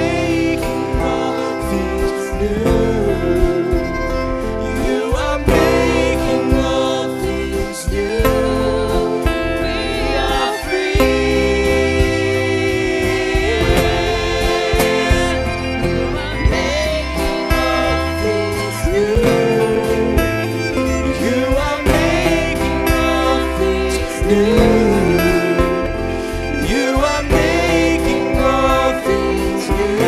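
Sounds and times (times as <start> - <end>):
keyboard and guitar accompaniment: 0.0 - 30.0
person singing: 0.0 - 30.0.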